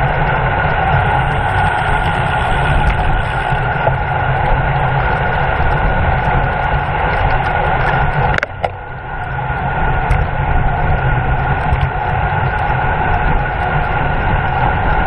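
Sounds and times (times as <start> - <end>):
wind and road rush: 0.0 - 15.0.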